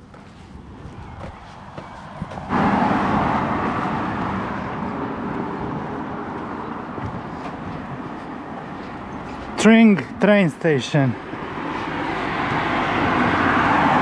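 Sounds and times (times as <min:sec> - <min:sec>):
passing vehicle rushing: 0:01.0 - 0:10.2, 0:10.8 - 0:14.0.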